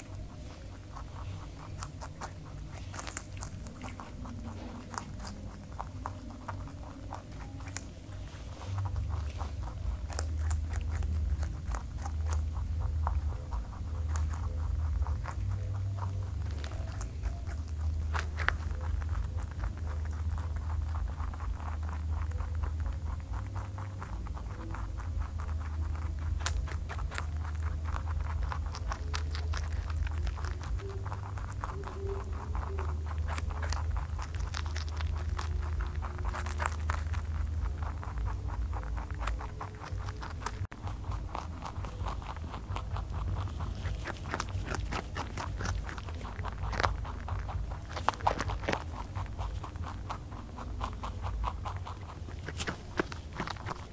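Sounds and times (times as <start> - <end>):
rabbits crunching vegetables: 0.0 - 53.9
steady low hum: 0.0 - 53.9.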